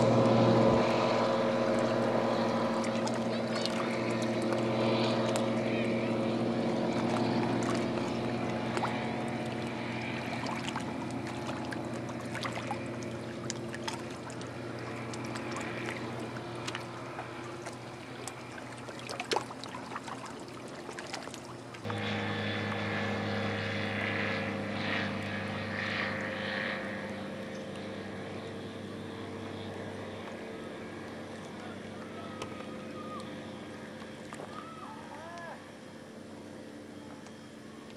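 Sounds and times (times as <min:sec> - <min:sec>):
distant propeller plane droning: 0:00.0 - 0:37.9.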